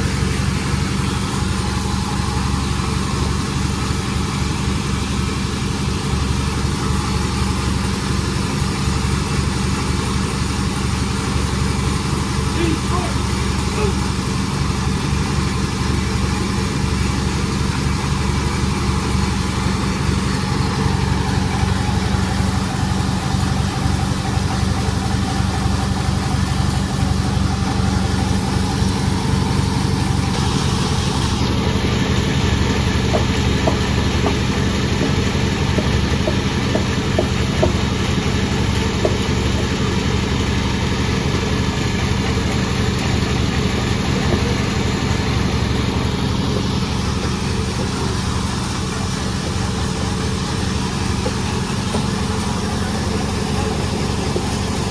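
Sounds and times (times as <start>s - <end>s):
sawmill machine running: 0.0s - 54.9s.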